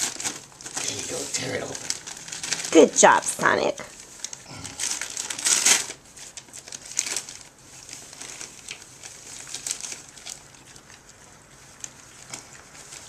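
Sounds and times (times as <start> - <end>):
wrapping paper crinkling: 0.0 - 13.0.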